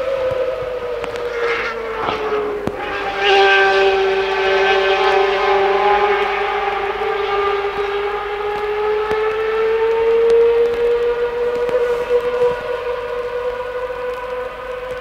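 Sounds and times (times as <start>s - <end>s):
racing car engine at high revs: 0.0s - 15.0s.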